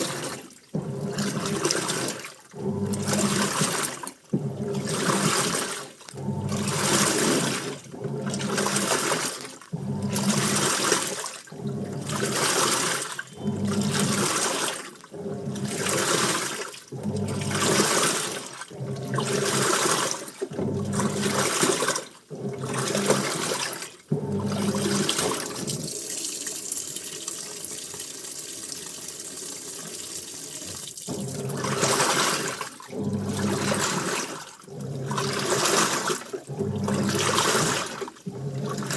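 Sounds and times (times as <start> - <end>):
washing machine motor hum: 0.0 - 38.9
water sloshing in washing machine: 0.0 - 38.9.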